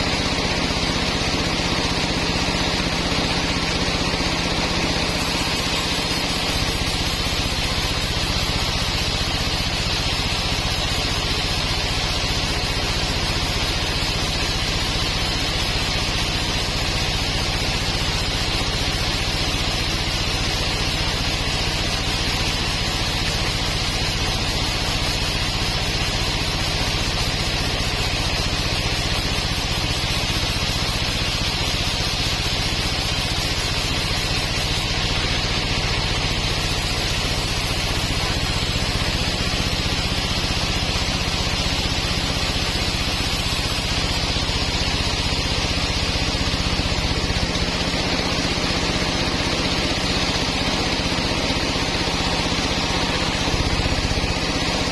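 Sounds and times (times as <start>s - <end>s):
sawmill machinery humming: 0.0s - 54.9s.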